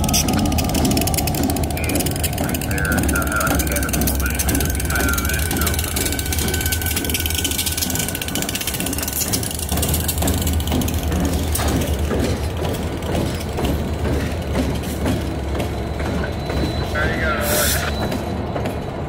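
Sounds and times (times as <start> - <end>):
diesel locomotive engine drone: 0.0 - 19.0
train running gear clicking: 0.0 - 19.0.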